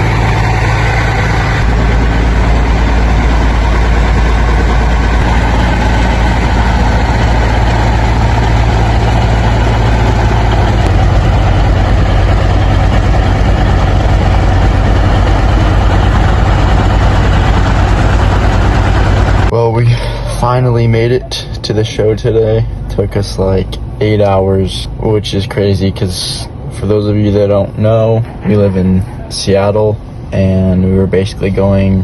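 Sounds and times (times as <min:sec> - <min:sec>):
pickup truck engine drone: 0:00.0 - 0:32.0
road and cab noise: 0:00.0 - 0:32.0.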